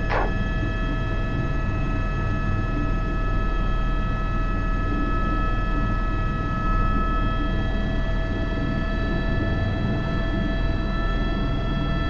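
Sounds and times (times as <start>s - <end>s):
constant whining tones: 0.0s - 12.0s
helicopter rotor and turbine rumble: 0.0s - 12.0s.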